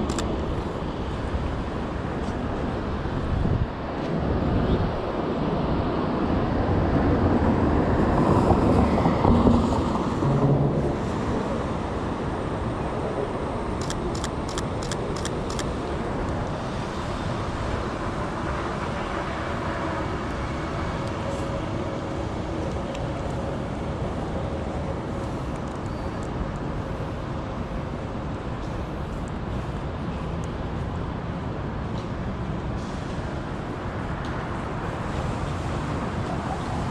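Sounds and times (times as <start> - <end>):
street traffic road noise: 0.0 - 36.9.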